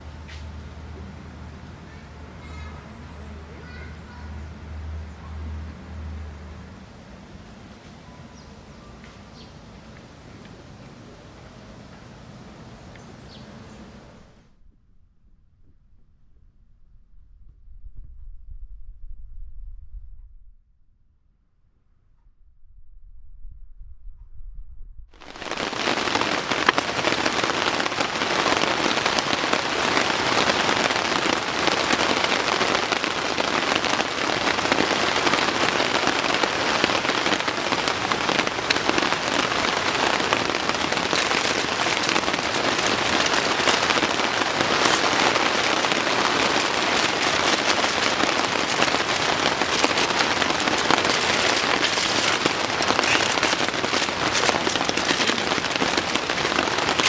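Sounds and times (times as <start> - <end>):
heavy rain: 0.0 - 14.4, 25.2 - 57.0.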